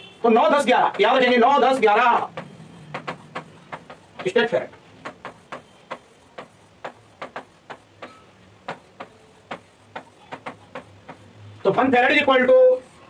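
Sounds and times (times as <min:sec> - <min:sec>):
chalk tapping on chalkboard: 0:00.4 - 0:13.0.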